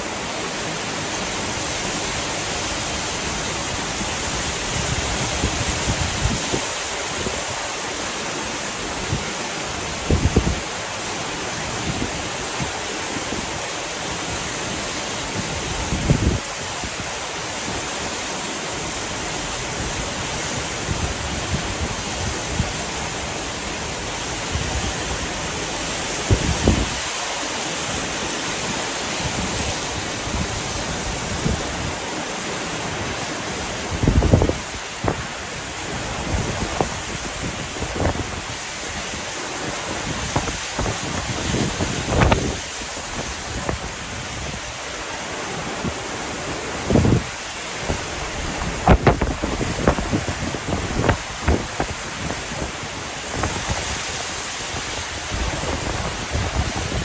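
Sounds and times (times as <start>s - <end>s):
heavy rain hissing: 0.0s - 57.0s
wind gusts buffeting microphone: 0.0s - 57.0s.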